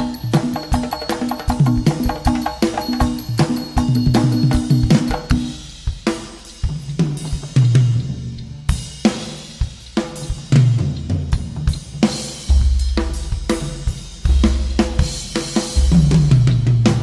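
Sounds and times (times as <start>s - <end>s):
drum kit: 0.0s - 17.0s.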